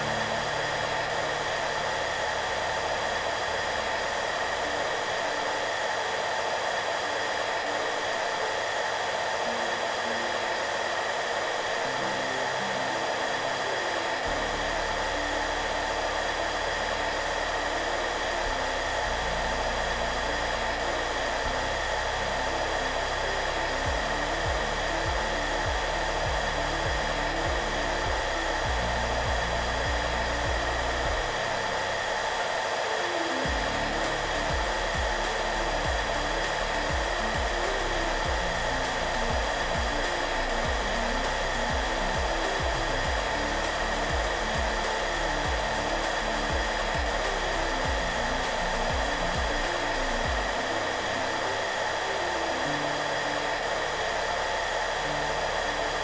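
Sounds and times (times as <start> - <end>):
hair dryer running: 0.0 - 56.0
soft background music: 0.0 - 56.0.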